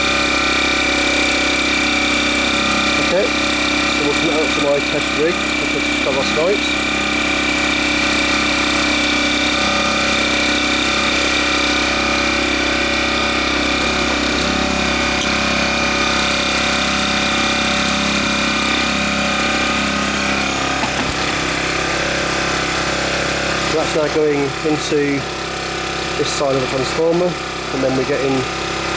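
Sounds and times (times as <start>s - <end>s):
generator engine running: 0.0s - 28.9s.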